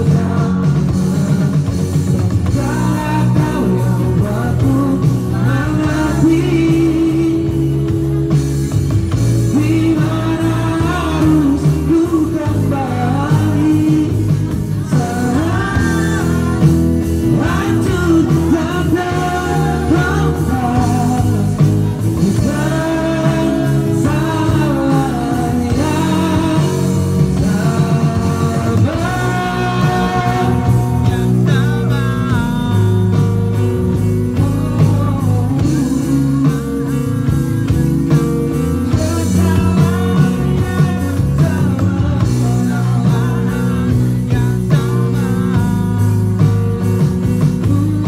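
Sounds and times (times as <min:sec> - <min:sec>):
person singing: 0:00.0 - 0:08.4, 0:09.1 - 0:48.0
live rock band playing: 0:00.0 - 0:48.0.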